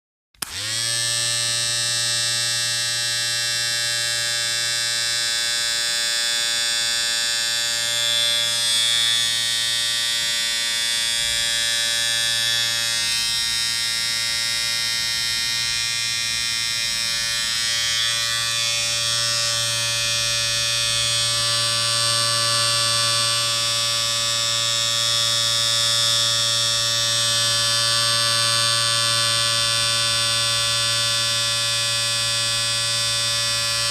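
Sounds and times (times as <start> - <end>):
electric shaver buzzing: 0.4 - 33.9.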